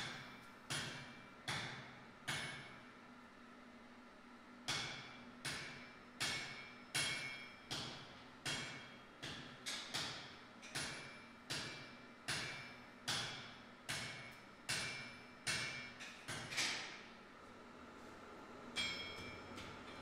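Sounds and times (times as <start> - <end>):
hammer striking steel on anvil: 0.0 - 2.9, 4.7 - 17.1, 18.7 - 20.0.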